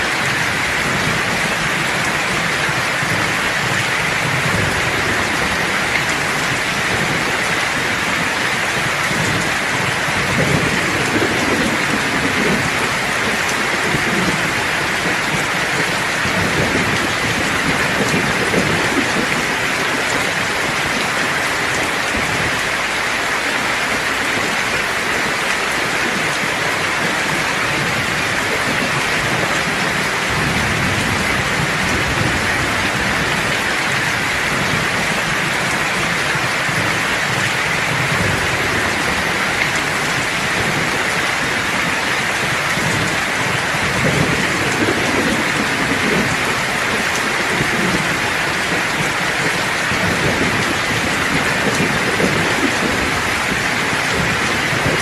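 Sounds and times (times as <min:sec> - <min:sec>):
steady rain falling: 0:00.0 - 0:55.0
thunder rumbling: 0:00.0 - 0:55.0.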